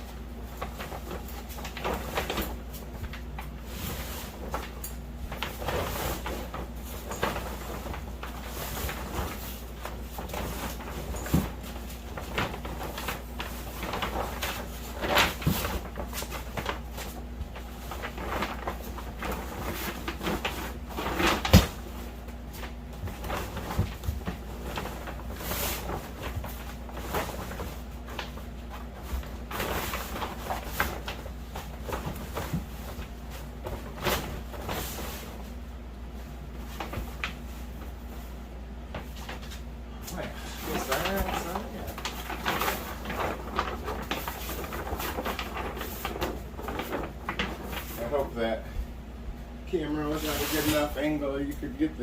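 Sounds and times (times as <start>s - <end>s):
fabric rustling: 0.0s - 48.6s, 49.7s - 52.0s
steady low hum: 0.0s - 52.0s.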